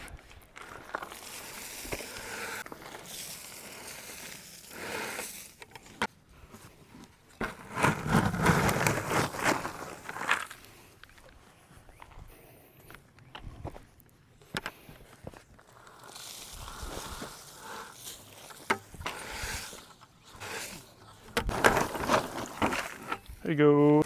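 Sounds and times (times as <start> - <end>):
wood chips crunching and scraping: 0.0 - 11.5, 14.8 - 24.0.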